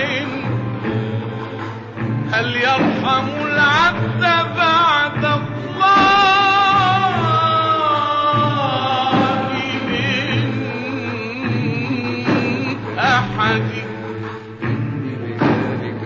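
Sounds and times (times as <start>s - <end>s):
instrumental accompaniment: 0.0s - 16.0s
man singing a religious hymn: 0.0s - 16.0s.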